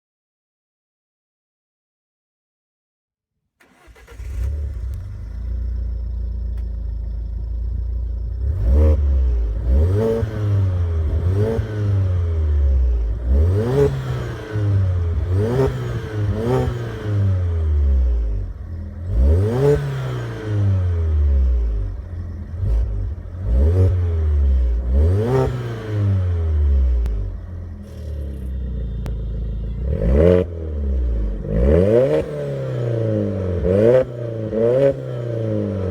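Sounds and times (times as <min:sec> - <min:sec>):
car engine revving: 0:03.6 - 0:35.9
car engine starting: 0:03.6 - 0:35.9.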